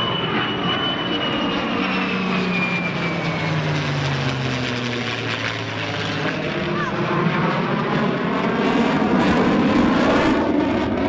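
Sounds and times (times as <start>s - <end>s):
jet and propeller aircraft passing: 0.0s - 11.0s.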